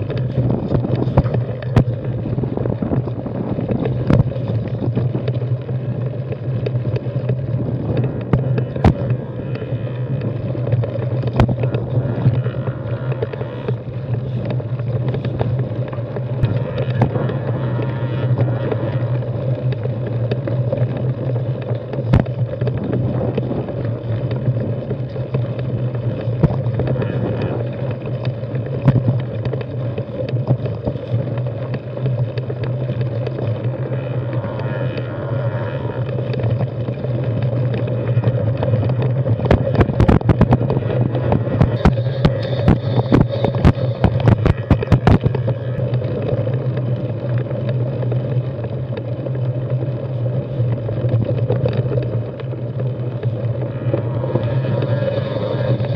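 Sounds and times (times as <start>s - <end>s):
bike rattling over rocks: 0.0s - 55.9s
bike tyres rumbling on dirt: 0.0s - 55.9s
wind on microphone: 0.0s - 55.9s.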